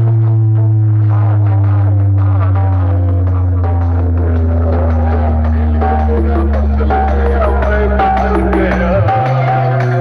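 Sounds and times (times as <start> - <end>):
loud electronic dance music: 0.6 - 10.0.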